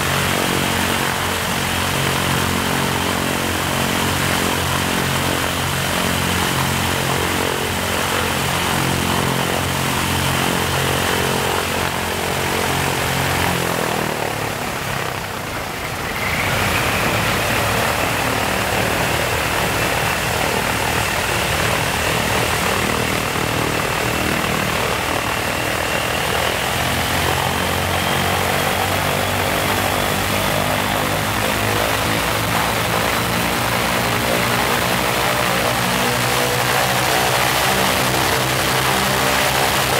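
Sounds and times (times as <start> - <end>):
radial propeller engine running: 0.0 - 39.9.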